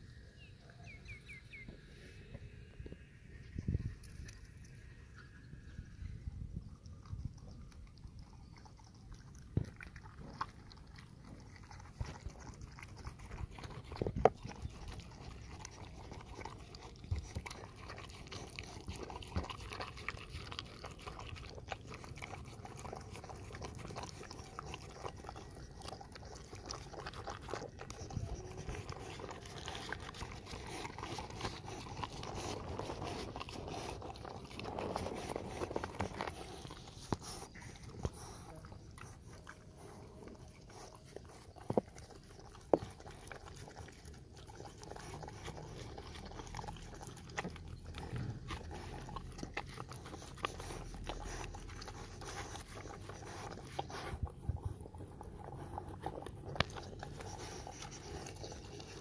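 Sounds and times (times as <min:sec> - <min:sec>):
dog chewing and eating: 0:02.9 - 0:59.0.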